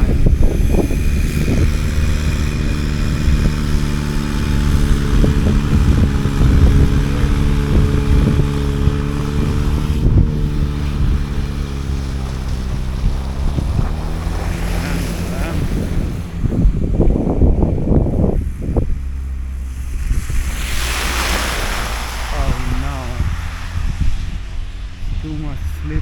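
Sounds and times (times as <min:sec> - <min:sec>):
snow-clearing machine engine running: 0:00.0 - 0:26.0
wind rumbling on microphone: 0:00.0 - 0:26.0.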